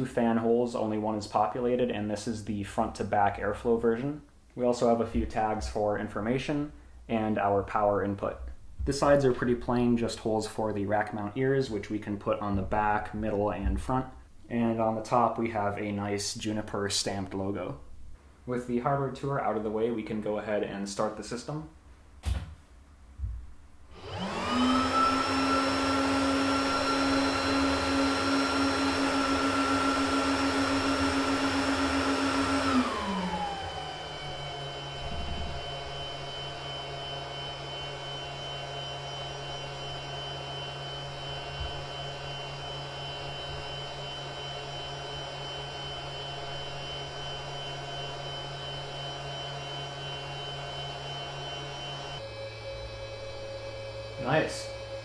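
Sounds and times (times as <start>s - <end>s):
cooling fan whining: 0.0s - 21.6s, 23.8s - 55.0s.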